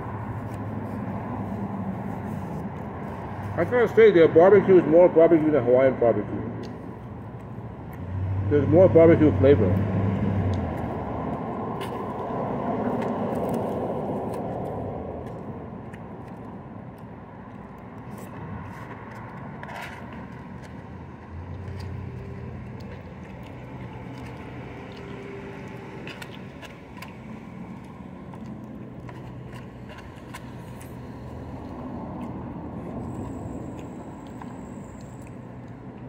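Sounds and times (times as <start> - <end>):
street traffic hum: 0.0 - 36.0.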